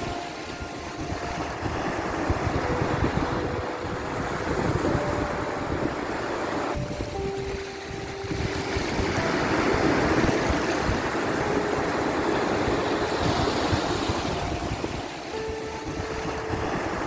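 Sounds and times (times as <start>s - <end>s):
sea waves surging: 0.0s - 17.0s.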